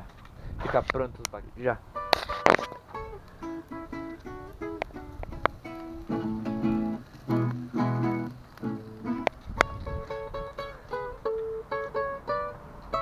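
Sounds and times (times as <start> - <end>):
plucked guitar melody: 1.9 - 13.0.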